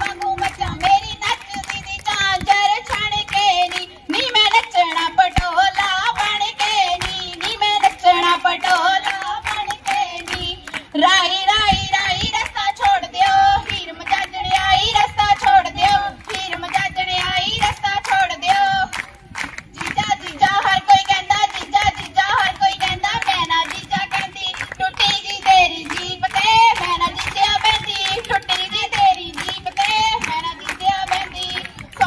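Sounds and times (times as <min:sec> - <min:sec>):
girls singing: 0:00.0 - 0:19.0, 0:19.8 - 0:32.0
rhythmic handclapping: 0:00.0 - 0:32.0.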